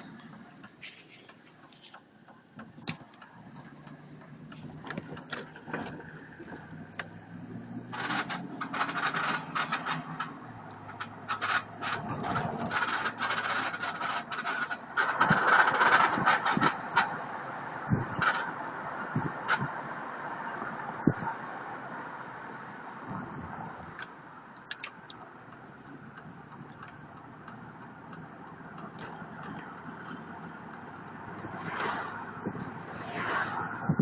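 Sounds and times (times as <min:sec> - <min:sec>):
vehicle rattles and clicks: 0:00.0 - 0:34.0.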